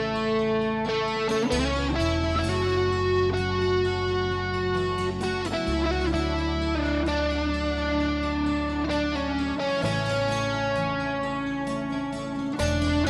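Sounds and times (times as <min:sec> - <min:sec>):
held bass notes: 0:00.0 - 0:13.0
melodic electric guitar: 0:00.0 - 0:13.0.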